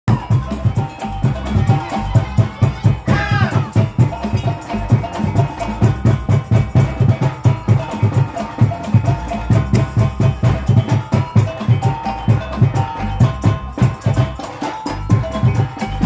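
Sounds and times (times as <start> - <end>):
held melodic tones: 0.1 - 16.0
other percussion: 0.1 - 16.0
quick drum beat: 0.1 - 16.0.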